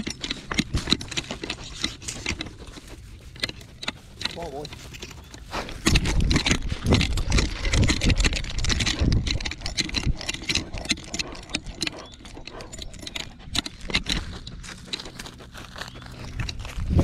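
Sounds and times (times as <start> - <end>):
camera handling clicks and rattles: 0.0 - 17.0.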